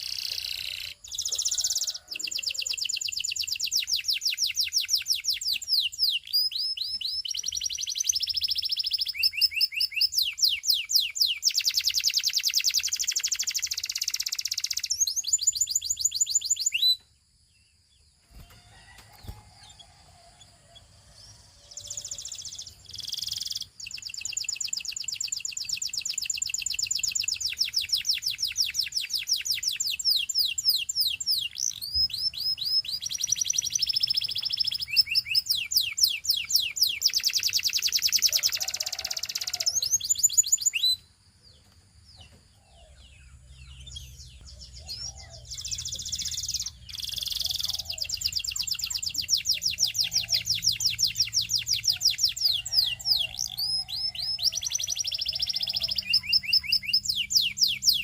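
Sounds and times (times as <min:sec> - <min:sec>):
canary trilling: 0:00.0 - 0:16.8, 0:21.6 - 0:40.8, 0:43.8 - 0:58.0
soft bird chirps: 0:00.0 - 0:58.0.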